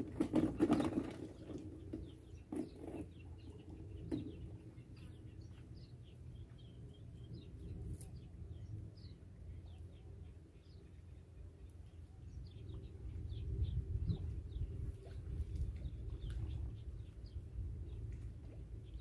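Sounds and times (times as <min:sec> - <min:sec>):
small birds chirping: 0:00.0 - 0:19.0
steady low rumble: 0:03.6 - 0:19.0.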